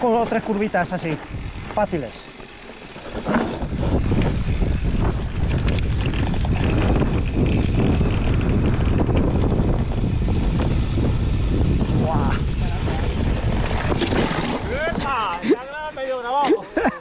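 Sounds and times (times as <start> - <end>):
bike knocks and rattles: 0.0 - 15.5
wind buffeting microphone: 0.0 - 15.9
tyres on dirt and rock: 0.0 - 16.4.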